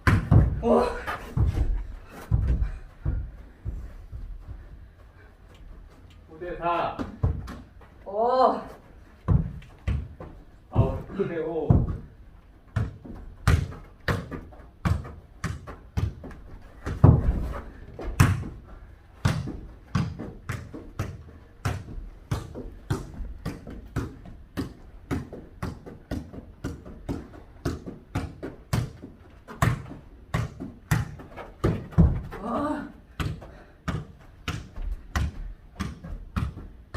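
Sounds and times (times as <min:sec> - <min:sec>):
ball kicked and bouncing on hard floor: 0:00.0 - 0:05.7, 0:06.9 - 0:08.0, 0:09.2 - 0:36.9.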